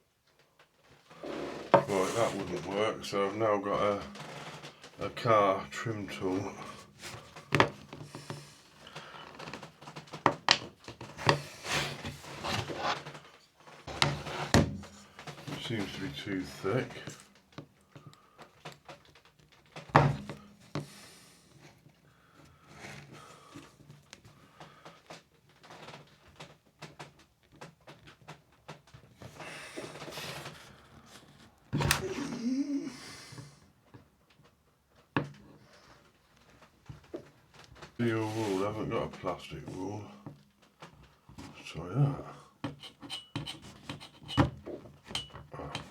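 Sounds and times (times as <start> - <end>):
tool scraping plastic case: 1.0 - 32.4, 36.6 - 45.9.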